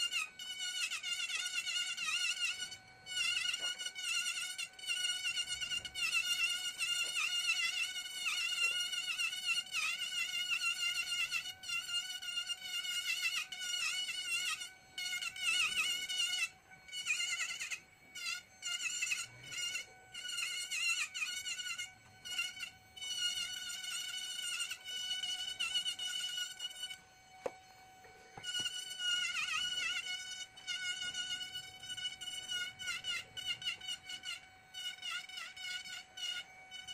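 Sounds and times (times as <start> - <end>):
rotary carving tool whining: 0.0 - 36.9.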